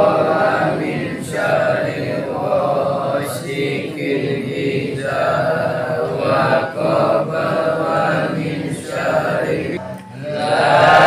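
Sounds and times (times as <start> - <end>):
men chanting prayer: 0.0 - 11.0.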